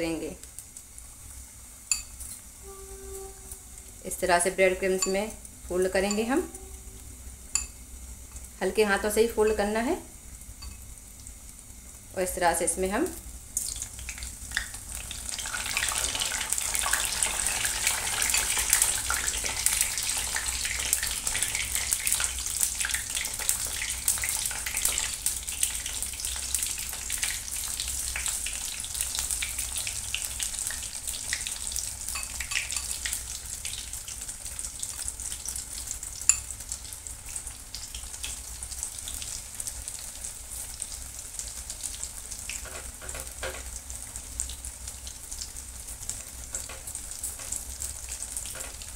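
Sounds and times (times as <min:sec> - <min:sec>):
food deep-frying in oil: 0:00.0 - 0:48.9.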